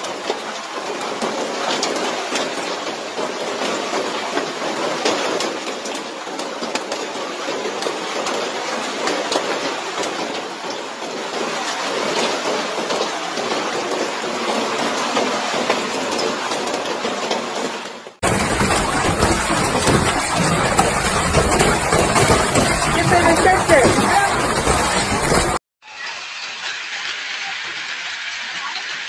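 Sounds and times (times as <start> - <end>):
hailstones pelting roofs: 0.0 - 29.0.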